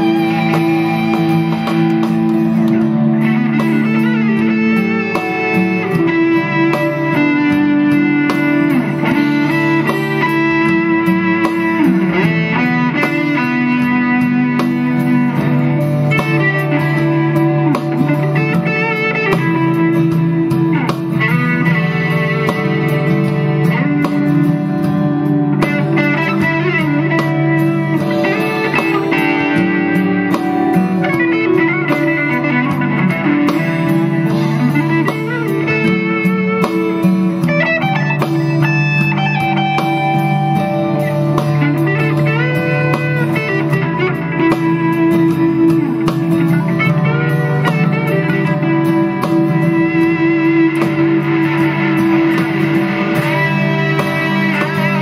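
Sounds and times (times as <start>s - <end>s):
electric guitar with string bends: 0.0s - 55.0s.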